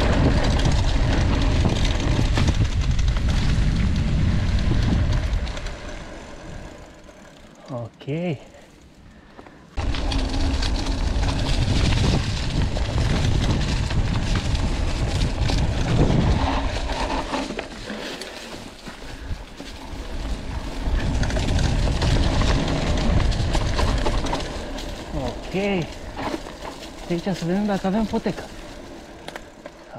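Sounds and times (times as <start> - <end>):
wind buffeting microphone: 0.0 - 6.8, 9.8 - 17.3, 19.2 - 28.9
bike rattling on dirt track: 0.0 - 29.9.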